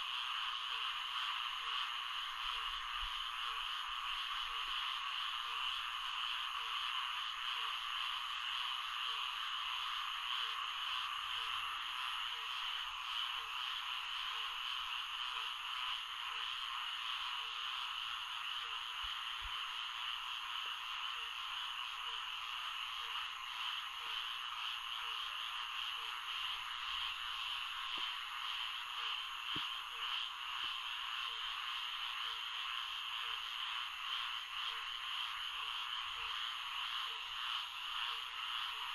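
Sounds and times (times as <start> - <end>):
chorus of frogs: 0.0 - 38.9.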